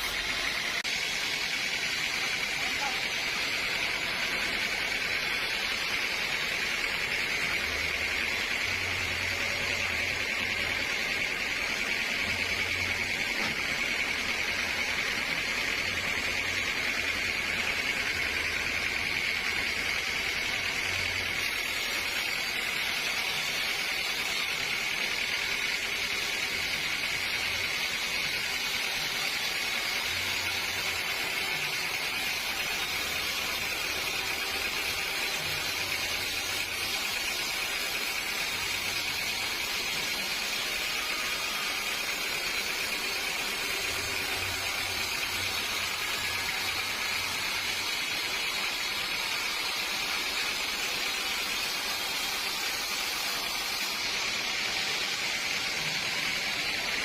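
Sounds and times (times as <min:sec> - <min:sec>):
sawmill machinery hiss and whine: 0:00.0 - 0:57.0.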